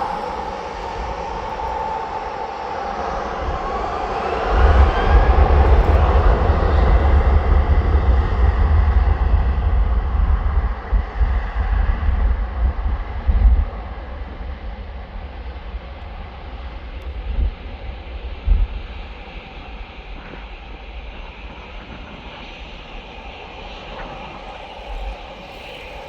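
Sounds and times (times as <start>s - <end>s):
jet engine roar: 0.0s - 26.0s
low gusty rumble: 0.0s - 26.0s.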